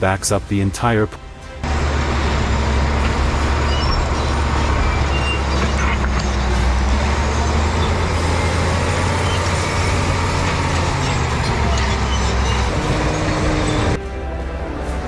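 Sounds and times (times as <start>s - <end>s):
heavy machine diesel engine droning: 1.4s - 15.0s.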